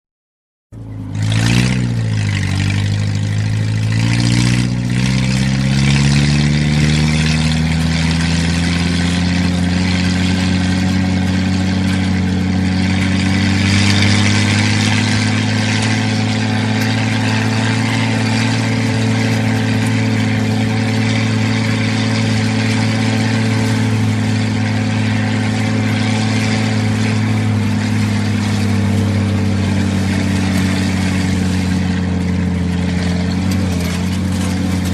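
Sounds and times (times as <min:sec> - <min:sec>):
jeep engine driving: 0:00.7 - 0:34.9.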